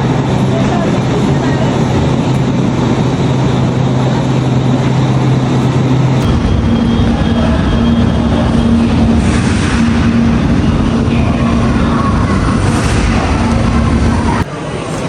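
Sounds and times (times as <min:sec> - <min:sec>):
passenger train rumbling: 0:00.0 - 0:15.0.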